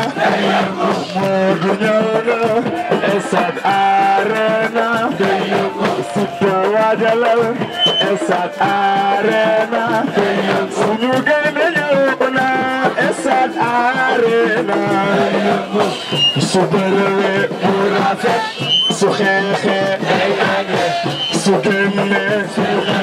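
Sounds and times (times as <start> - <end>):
drums: 0.0 - 23.0
voices singing a chant: 0.0 - 23.0.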